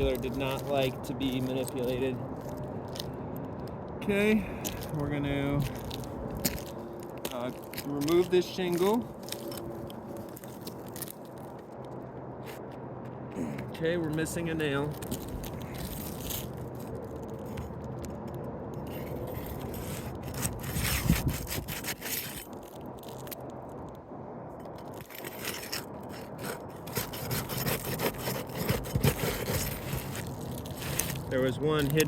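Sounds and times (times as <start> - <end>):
roof shingle scraping and crackling: 0.0 - 3.1, 4.0 - 18.2, 18.8 - 23.9, 24.7 - 32.0.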